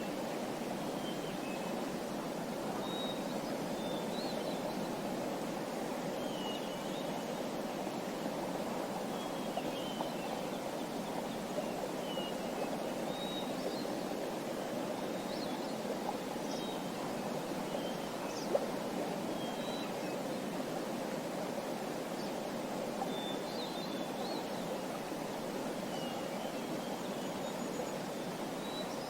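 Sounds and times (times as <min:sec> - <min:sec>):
flowing water: 0:00.0 - 0:29.0.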